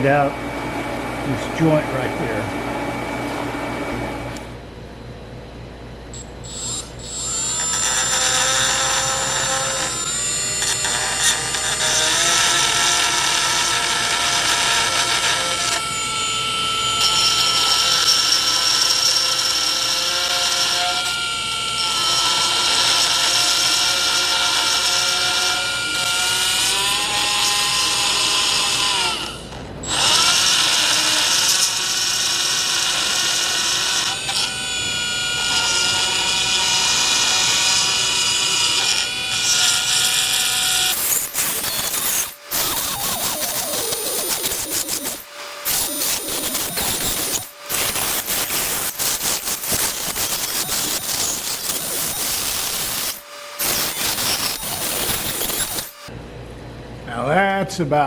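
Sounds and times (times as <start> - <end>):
grinder whining on metal: 6.2 - 56.1.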